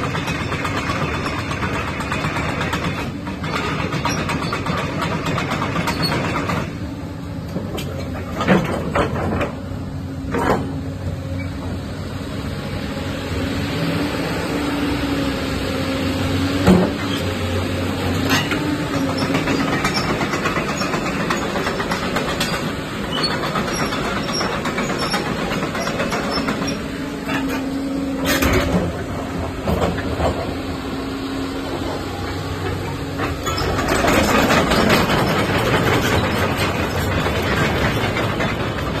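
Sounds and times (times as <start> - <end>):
excavator engine and hydraulics: 0.0 - 39.0.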